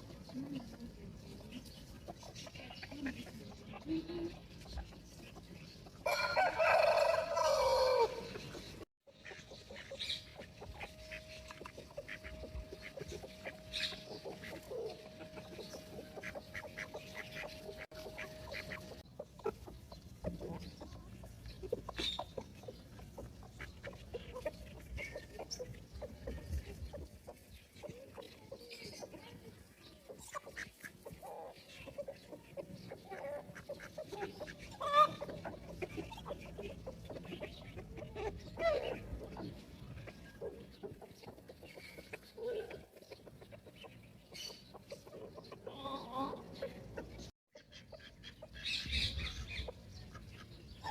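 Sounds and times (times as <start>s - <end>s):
chicks peeping: 0.0s - 50.9s.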